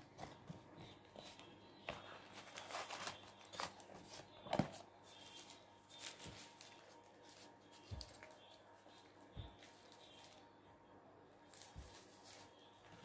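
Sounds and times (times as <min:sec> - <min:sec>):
paper wrapper rustling: 0:01.2 - 0:10.4, 0:11.5 - 0:13.0.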